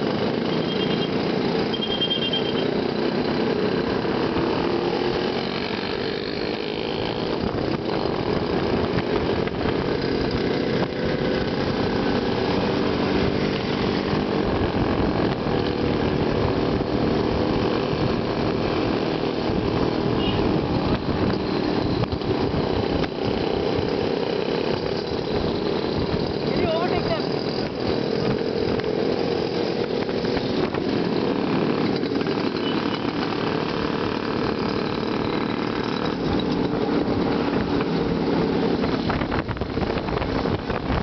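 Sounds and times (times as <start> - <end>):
motorcycle engines running: 0.0 - 41.0.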